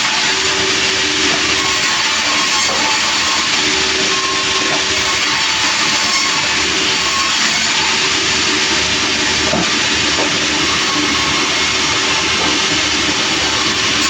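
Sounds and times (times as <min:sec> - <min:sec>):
sawmill hissing: 0:00.0 - 0:14.0.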